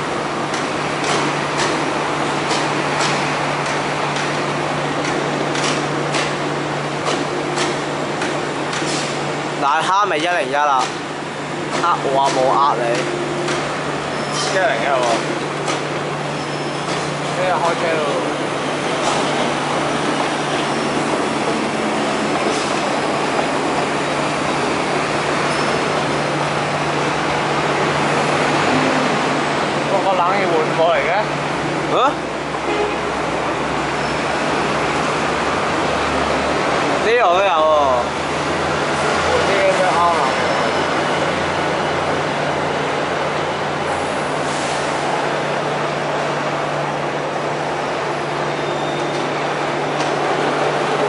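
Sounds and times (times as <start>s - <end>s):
train rumbling on rails: 0.0s - 51.0s.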